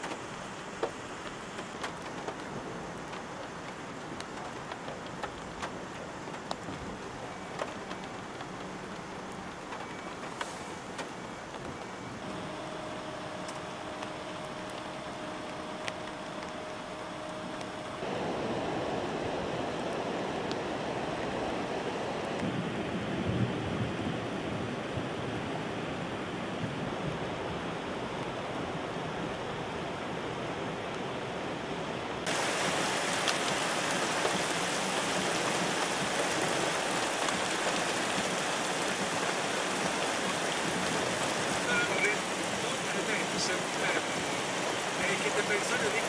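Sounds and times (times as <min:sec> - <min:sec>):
rushing floodwater: 0:00.0 - 0:23.2, 0:31.9 - 0:46.0
rain: 0:00.0 - 0:46.0.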